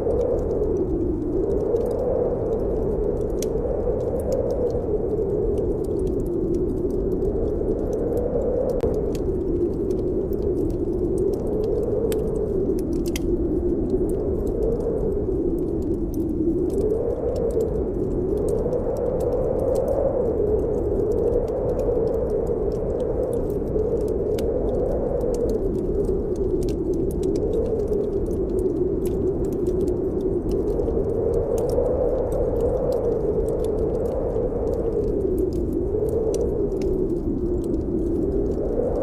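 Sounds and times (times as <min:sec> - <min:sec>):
wind howling: 0:00.0 - 0:39.0
wood fire crackling: 0:00.0 - 0:39.0.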